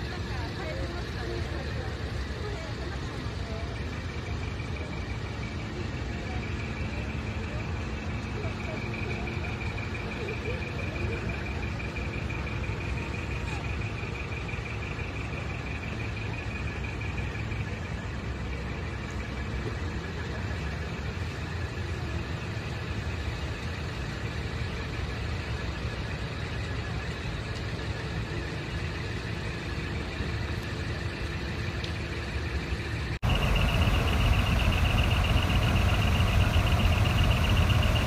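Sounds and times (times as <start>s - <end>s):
faint steady whine: 0.0s - 38.0s
truck engine idling: 0.0s - 38.0s.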